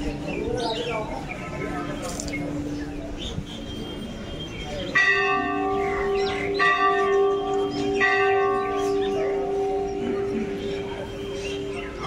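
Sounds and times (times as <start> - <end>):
temple bell ringing: 1.6 - 12.0.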